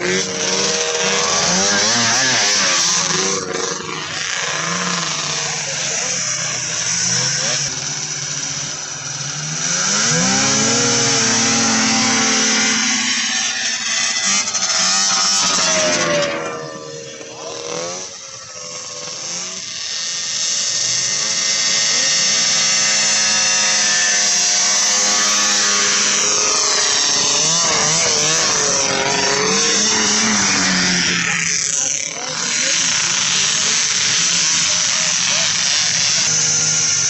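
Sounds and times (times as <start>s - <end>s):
snowmobile engines at full throttle: 0.0s - 37.0s.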